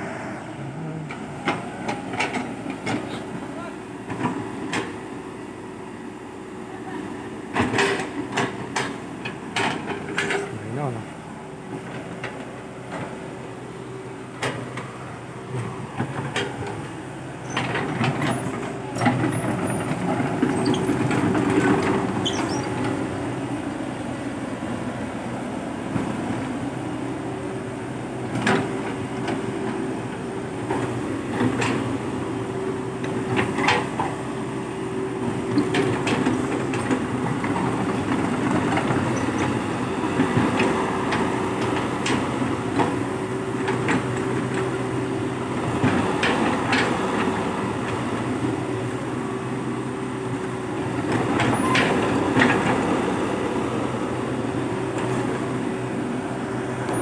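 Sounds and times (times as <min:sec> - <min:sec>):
excavator engine humming: 0:00.0 - 0:57.0.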